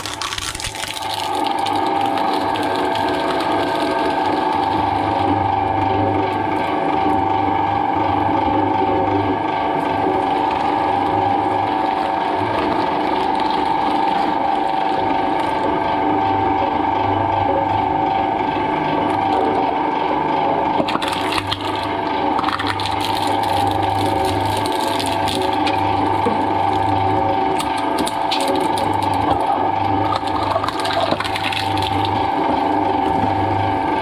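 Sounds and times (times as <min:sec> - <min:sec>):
shredder gear whine and hum: 0:00.0 - 0:34.0.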